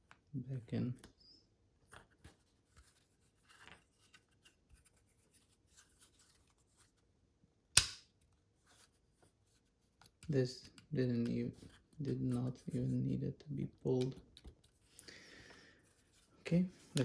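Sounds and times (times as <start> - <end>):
faint plastic handling noises: 0.0 - 7.2, 8.1 - 17.0.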